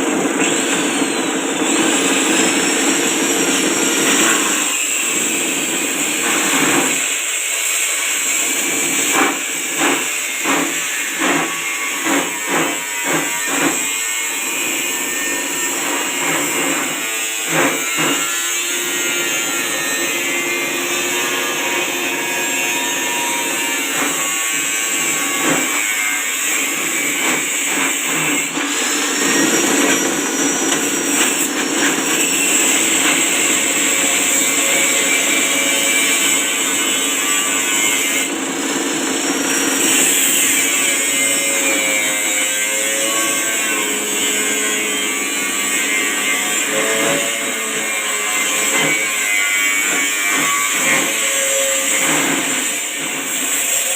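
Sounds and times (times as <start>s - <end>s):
grass-chopping machine whirring: 0.0s - 37.3s, 45.0s - 53.9s.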